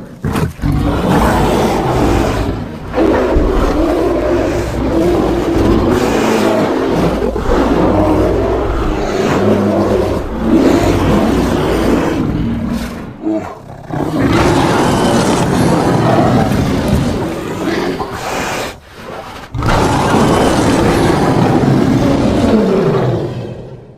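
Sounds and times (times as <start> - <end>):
creature growling roars: 0.0 - 23.9.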